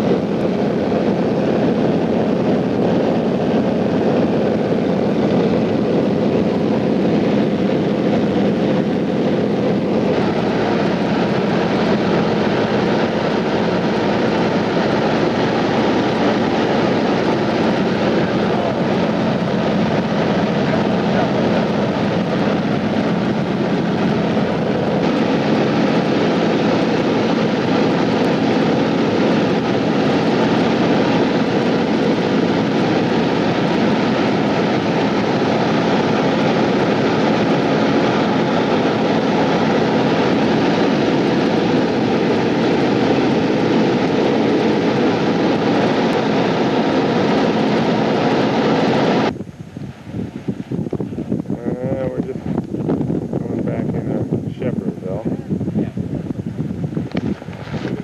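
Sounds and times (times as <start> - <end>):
propeller airplane engine droning: 0.0 - 58.0.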